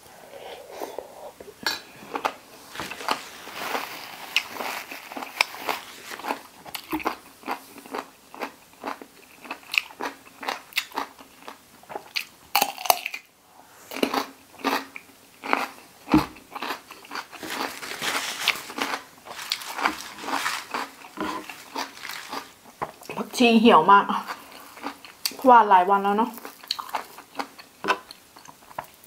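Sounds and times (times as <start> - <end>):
crunching and chewing cucumber: 3.0 - 13.3, 13.9 - 23.1, 24.2 - 25.4, 26.3 - 29.0.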